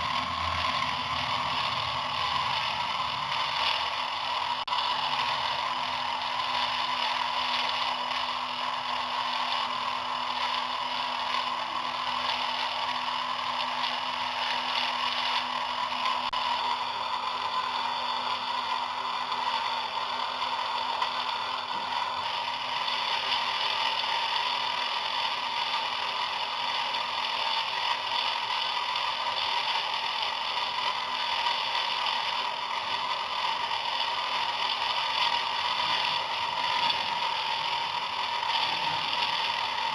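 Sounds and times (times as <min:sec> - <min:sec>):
small electric motor running: 0:00.0 - 0:39.9.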